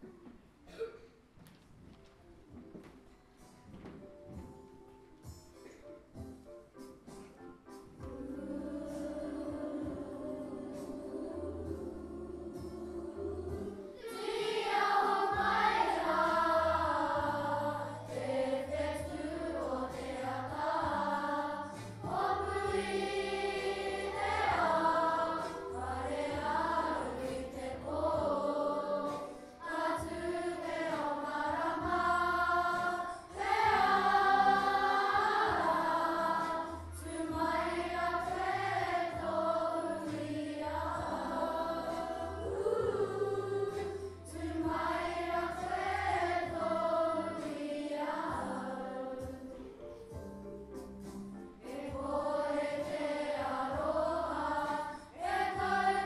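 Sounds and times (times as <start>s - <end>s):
low musical backing: 0.0s - 56.0s
children singing together: 8.0s - 50.2s, 51.6s - 56.0s.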